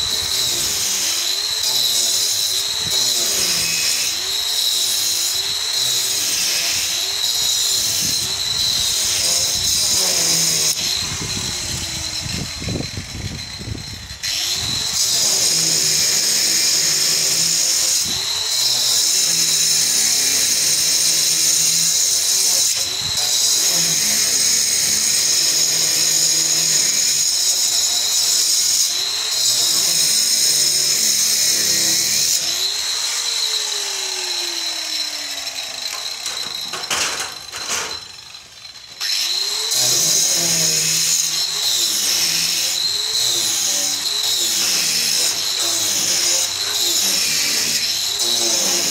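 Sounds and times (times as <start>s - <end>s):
angle grinder cutting masonry: 0.0s - 48.9s.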